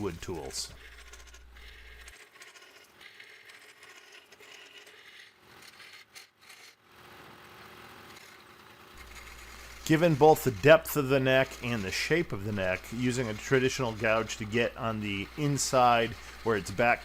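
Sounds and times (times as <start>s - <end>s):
lathe tool scraping wood: 0.0s - 6.8s, 8.0s - 17.0s.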